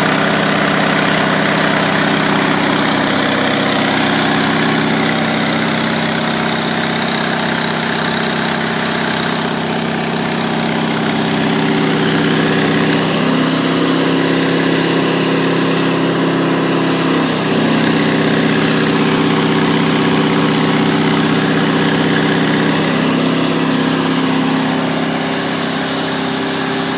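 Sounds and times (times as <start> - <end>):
diesel generator running: 0.0 - 26.9.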